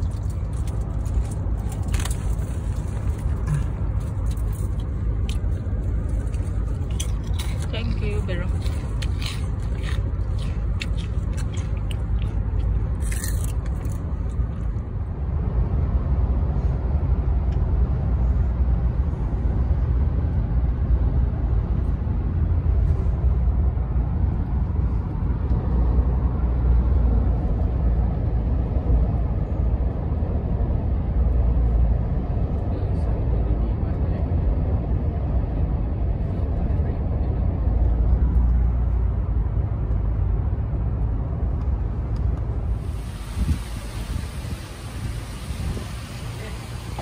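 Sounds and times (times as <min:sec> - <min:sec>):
car interior rumble: 0:00.0 - 0:47.0.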